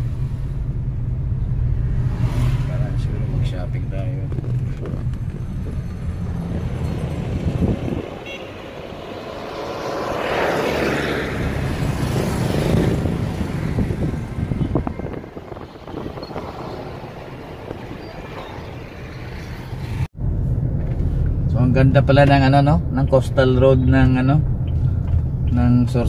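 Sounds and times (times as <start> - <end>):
car engine and road noise: 0.0 - 26.0
passing traffic: 0.0 - 26.0.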